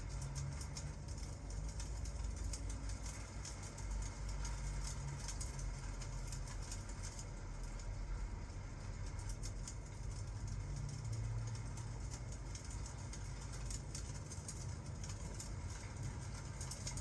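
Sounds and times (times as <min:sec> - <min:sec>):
constant low rumble: 0:00.0 - 0:17.0.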